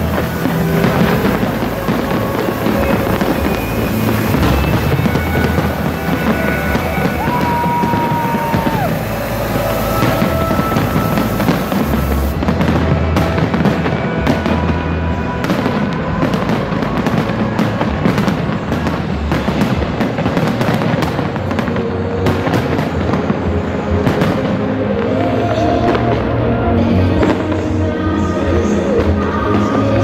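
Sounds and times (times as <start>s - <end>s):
fireworks bangs: 0.0s - 30.0s
music playing: 0.0s - 30.0s.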